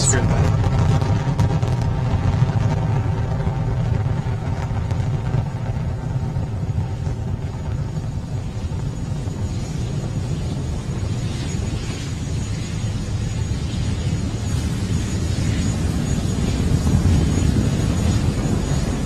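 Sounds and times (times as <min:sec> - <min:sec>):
rocket engines deep rumble: 0:00.0 - 0:19.0.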